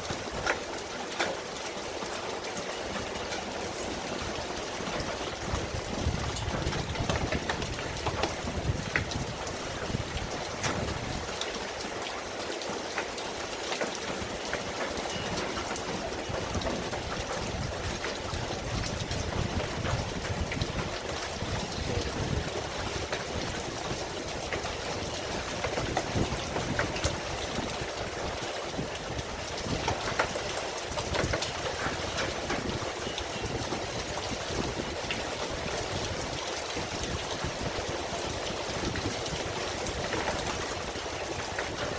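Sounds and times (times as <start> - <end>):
steady rain hiss: 0.0 - 41.9
raindrop hits: 2.6 - 41.9.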